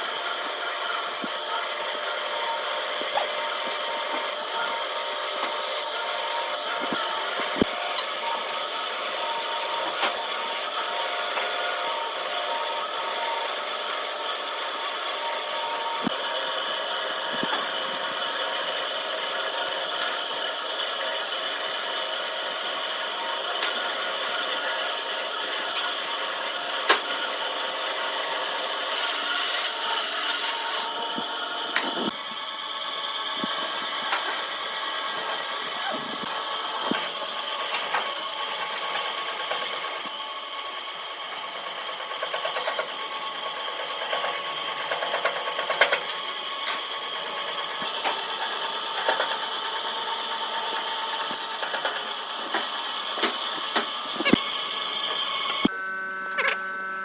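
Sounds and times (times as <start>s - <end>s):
power tool whining on wood: 0.0s - 57.0s.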